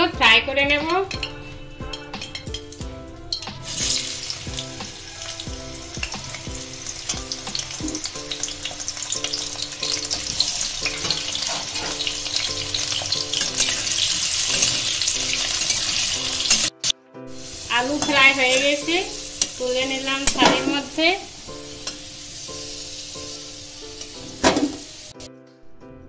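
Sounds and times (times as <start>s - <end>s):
soft background music: 0.0s - 26.0s
spatula stirring: 0.8s - 24.8s
potatoes sizzling in hot oil: 1.1s - 25.2s.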